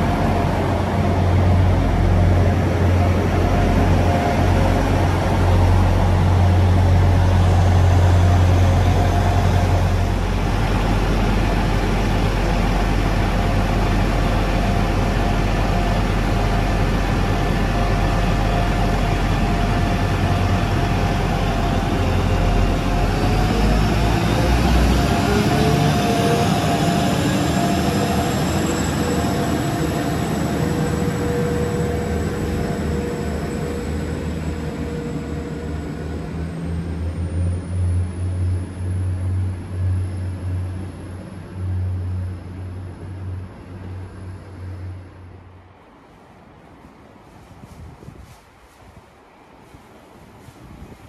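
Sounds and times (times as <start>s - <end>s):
rising whine: 0.0s - 45.1s
diesel train rumble: 0.0s - 51.0s.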